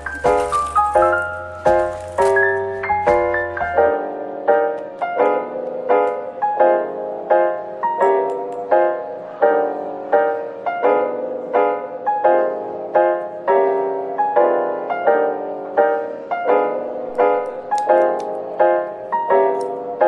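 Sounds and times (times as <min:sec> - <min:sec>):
soft piano chords: 0:00.0 - 0:20.0.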